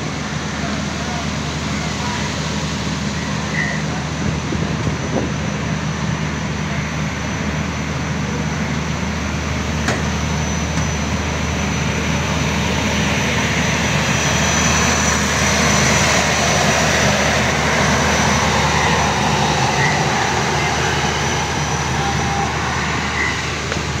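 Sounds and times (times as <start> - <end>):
diesel generators passing: 0.0 - 24.0
train wheels rumbling on rails: 0.0 - 24.0.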